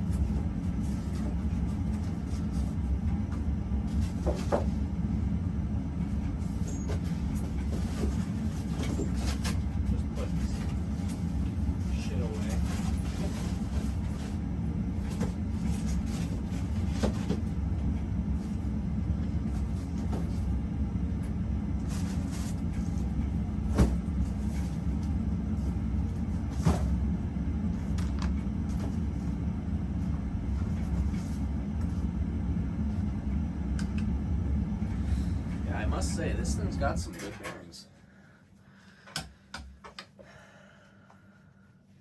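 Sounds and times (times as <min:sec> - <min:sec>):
ceiling fan rumble: 0:00.0 - 0:42.0.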